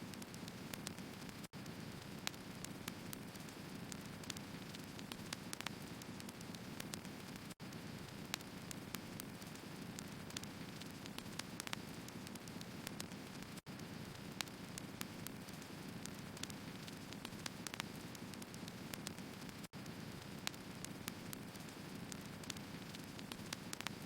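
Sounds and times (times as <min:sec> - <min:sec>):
fire crackles and pops: 0:00.0 - 0:24.0.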